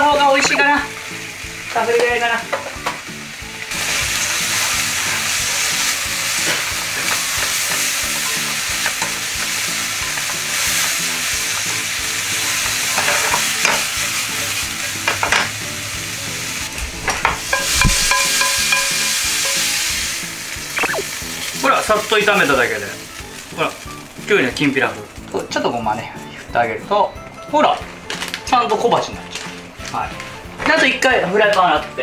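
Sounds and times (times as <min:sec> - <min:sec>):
vegetables sizzling in a frying pan: 0:00.0 - 0:32.0.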